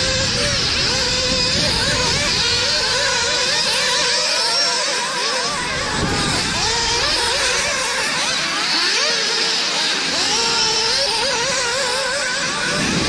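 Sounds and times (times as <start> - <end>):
rc car engines whining: 0.0 - 13.0.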